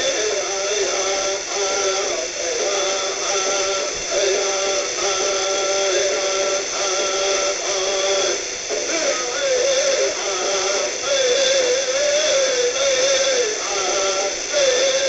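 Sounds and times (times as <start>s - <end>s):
man singing over radio speaker: 0.0s - 15.0s.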